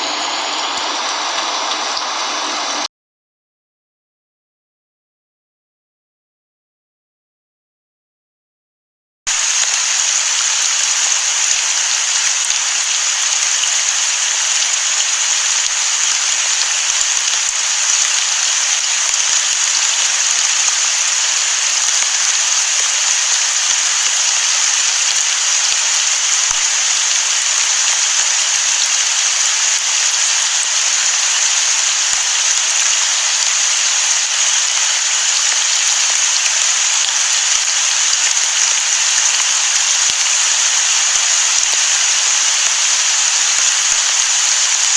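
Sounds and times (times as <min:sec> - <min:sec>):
steady rain hiss: 0:00.0 - 0:02.9, 0:09.3 - 0:44.9.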